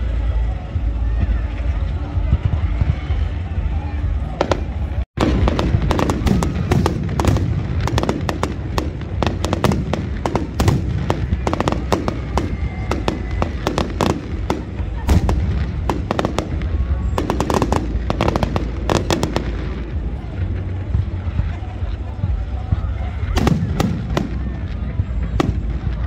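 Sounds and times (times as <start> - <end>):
steady low noise: 0.0 - 26.0
fireworks bangs and pops: 4.3 - 26.0.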